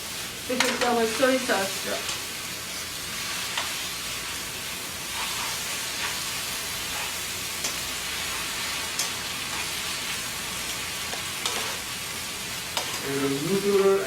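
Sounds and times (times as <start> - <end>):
noodles sizzling in a pan: 0.0 - 14.0.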